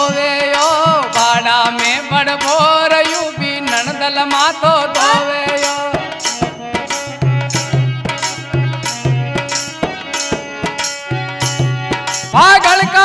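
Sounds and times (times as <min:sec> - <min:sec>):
folk music drum rhythm: 0:00.0 - 0:13.0.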